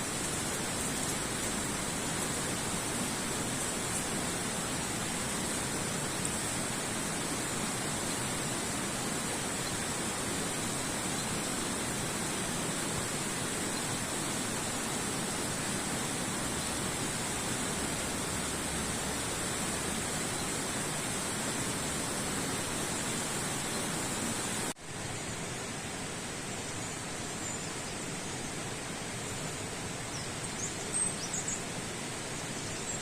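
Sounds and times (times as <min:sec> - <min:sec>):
high hiss: 0:00.0 - 0:33.0.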